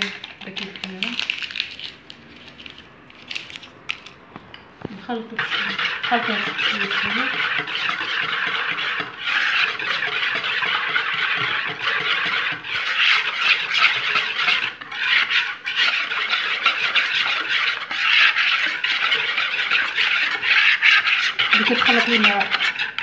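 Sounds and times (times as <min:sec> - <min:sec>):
utensil scraping plastic bowl: 0:00.0 - 0:04.1, 0:05.0 - 0:23.0.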